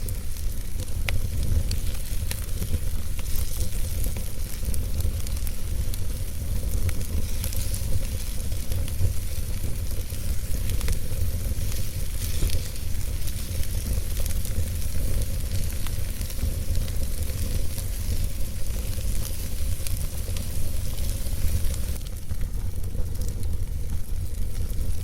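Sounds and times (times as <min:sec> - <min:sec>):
fire crackling and popping: 0:00.0 - 0:25.0
fire hissing: 0:00.0 - 0:25.0
fire rumbling: 0:00.0 - 0:25.0.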